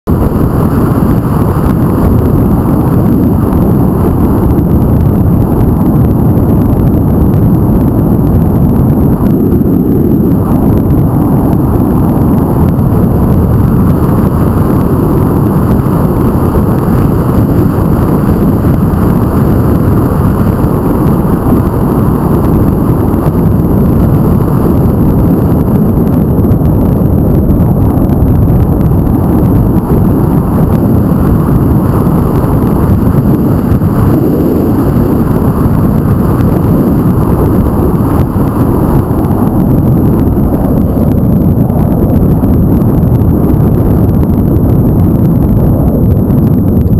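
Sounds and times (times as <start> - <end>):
vehicle running noise: 0.0 - 46.9
wind buffeting microphone: 0.0 - 46.9.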